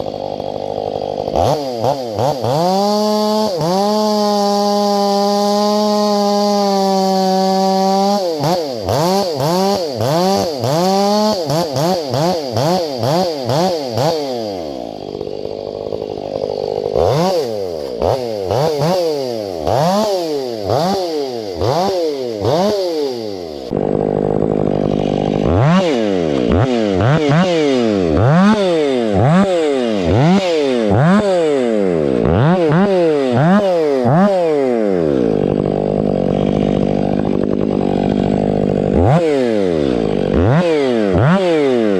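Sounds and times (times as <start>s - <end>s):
chainsaw cutting logs: 0.0s - 41.9s.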